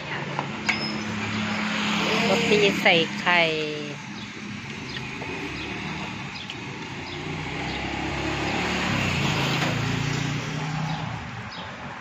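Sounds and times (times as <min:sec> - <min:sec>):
vehicle driving past: 0:01.0 - 0:11.5.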